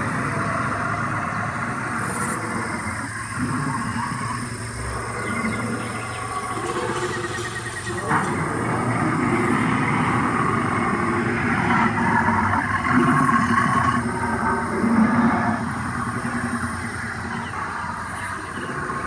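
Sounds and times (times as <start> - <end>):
dinosaur roar through loudspeaker: 0.0 - 19.0.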